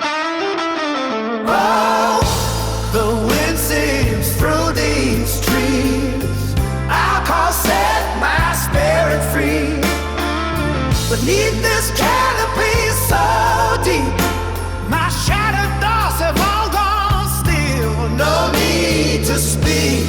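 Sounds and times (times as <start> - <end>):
held bass notes: 2.2 - 20.0.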